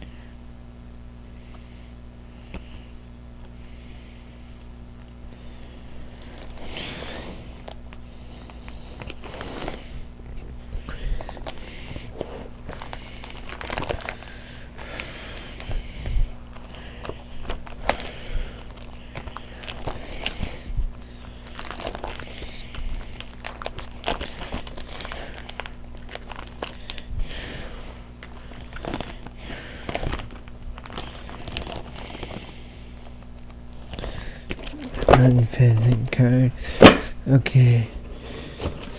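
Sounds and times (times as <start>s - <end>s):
foil wrapper crinkling: 4.6s - 38.9s.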